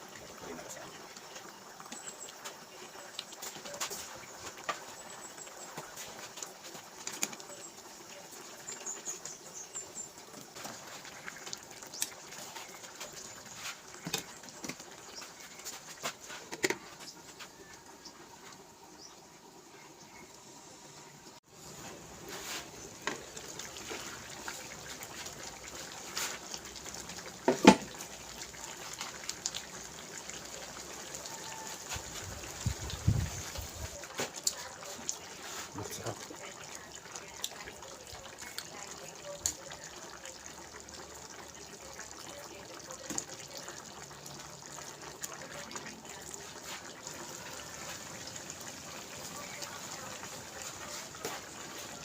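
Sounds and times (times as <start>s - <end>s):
water trickling: 0.0s - 52.0s.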